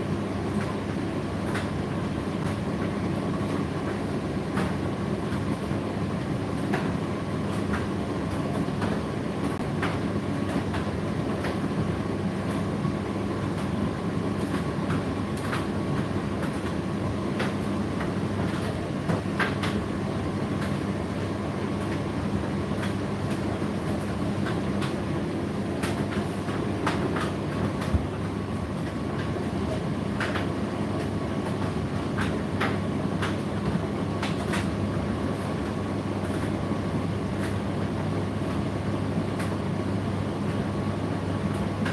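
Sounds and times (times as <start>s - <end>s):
tumble dryer running: 0.0s - 41.9s.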